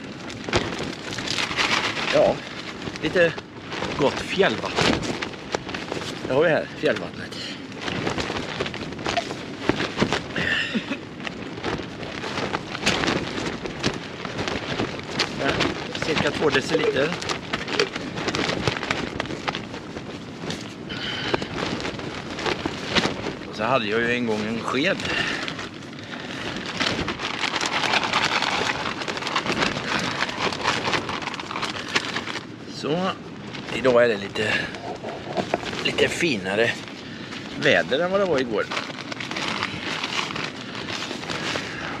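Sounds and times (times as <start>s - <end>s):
gusty wind: 0.0s - 42.0s
plastic bag crinkling: 0.0s - 42.0s
tent fabric flapping and crackling: 0.0s - 42.0s.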